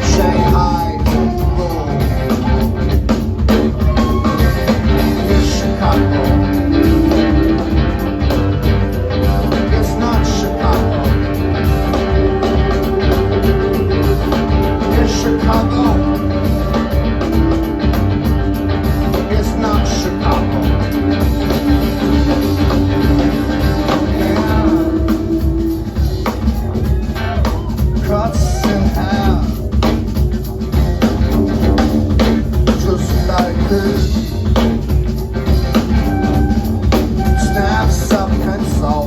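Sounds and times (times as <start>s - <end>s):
live rock band playing: 0.0s - 39.0s
steady drum beat: 0.0s - 39.0s.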